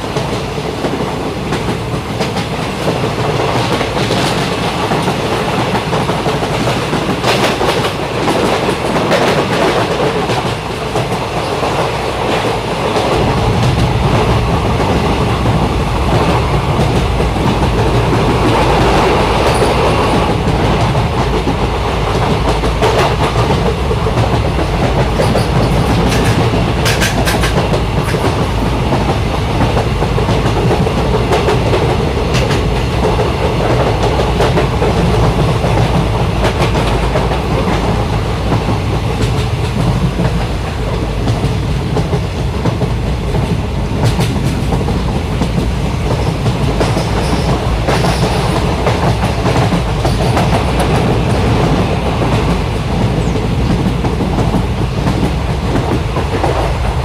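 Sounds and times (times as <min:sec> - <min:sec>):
train rumbling: 0:00.0 - 0:57.0
wheels clicking on rails: 0:00.1 - 0:57.0.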